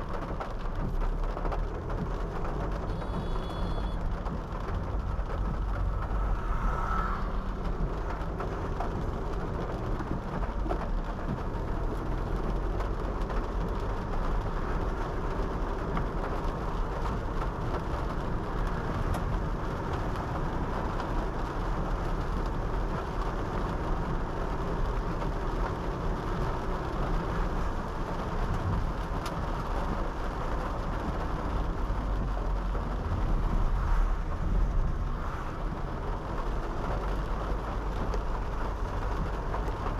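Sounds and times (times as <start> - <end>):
rain: 0.0 - 39.9
tyre and road noise: 0.0 - 39.9.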